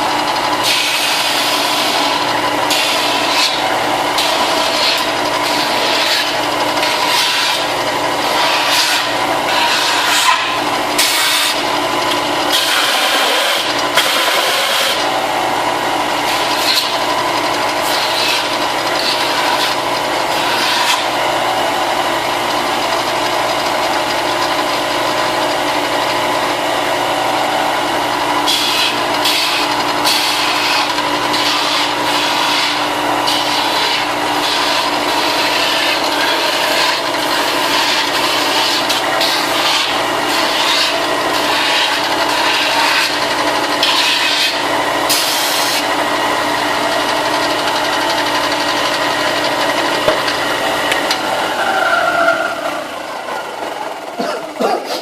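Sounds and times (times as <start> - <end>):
electric sander grinding: 0.0 - 54.6.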